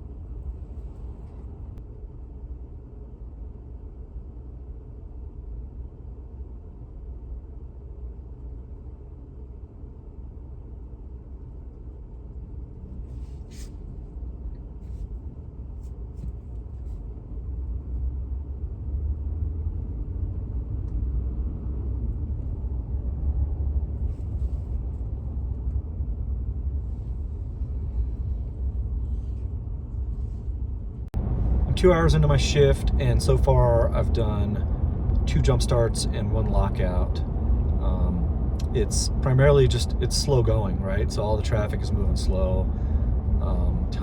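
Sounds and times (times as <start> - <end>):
road and engine rumble in cab: 0.0 - 44.0.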